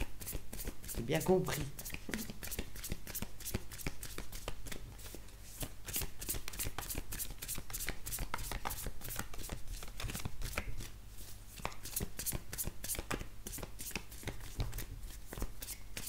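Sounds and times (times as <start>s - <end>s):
cards being shuffled: 1.8s - 16.0s.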